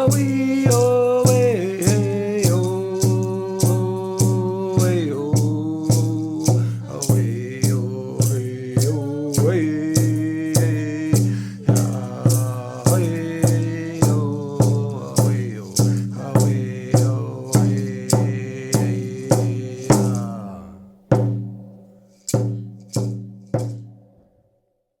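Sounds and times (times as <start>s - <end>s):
voices singing: 0.0s - 20.9s
steady drum beat: 0.0s - 23.9s.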